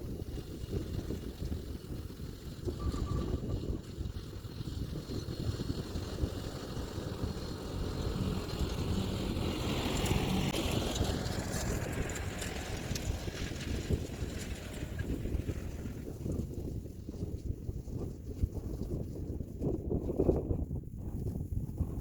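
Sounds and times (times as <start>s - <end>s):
diesel tractor running: 0.0s - 17.8s.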